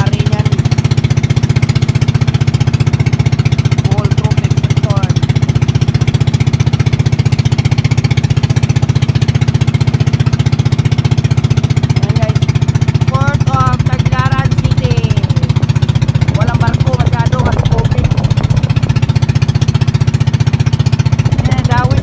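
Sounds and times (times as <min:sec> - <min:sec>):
boat engine chugging: 0:00.0 - 0:22.0.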